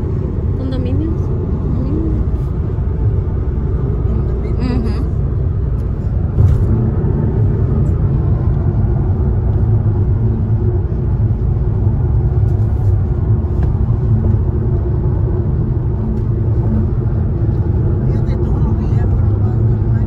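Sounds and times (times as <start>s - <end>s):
car interior road noise: 0.0s - 20.0s.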